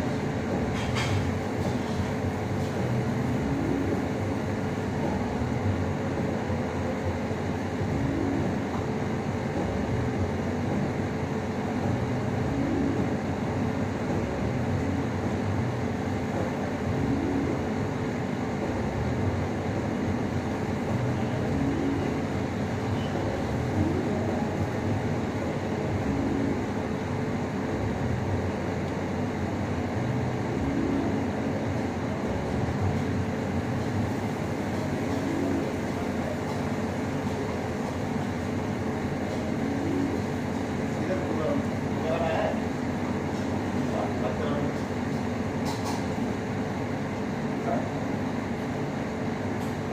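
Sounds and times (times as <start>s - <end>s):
room noise rumble and hum: 0.0s - 49.9s.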